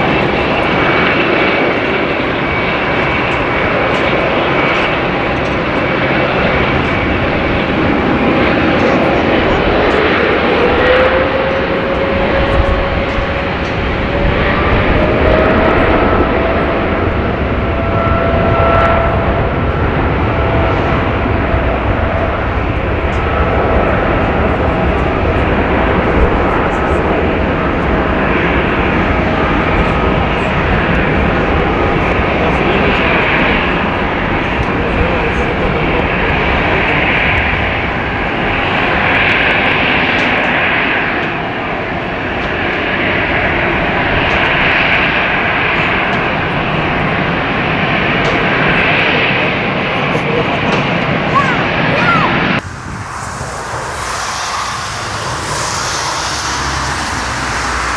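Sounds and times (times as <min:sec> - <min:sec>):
jet engine roar and whine: 0:00.0 - 0:57.9.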